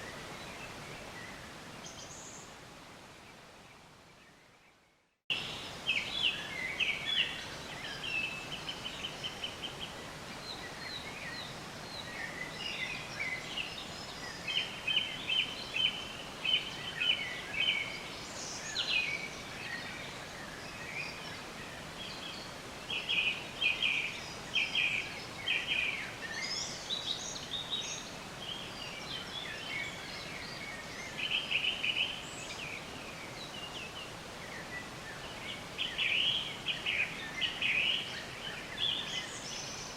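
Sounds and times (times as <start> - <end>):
steady background hiss: 0.0 - 39.9
songbirds chirping and singing: 3.3 - 39.9.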